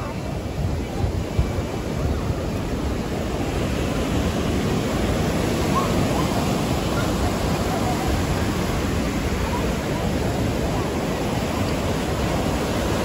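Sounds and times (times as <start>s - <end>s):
faint voices of people: 0.0s - 4.0s, 5.6s - 12.6s
ocean surf breaking: 0.0s - 13.0s.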